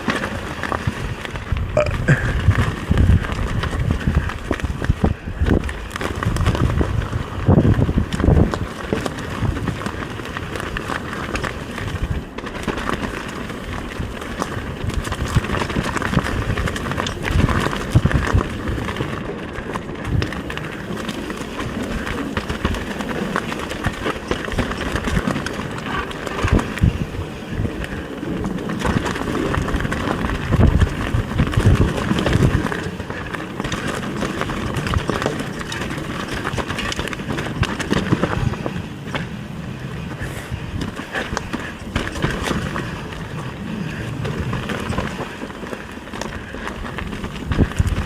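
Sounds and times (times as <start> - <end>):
bike knocks and jolts: 0.0 - 48.0
bike tyres on dirt trail: 0.0 - 48.0.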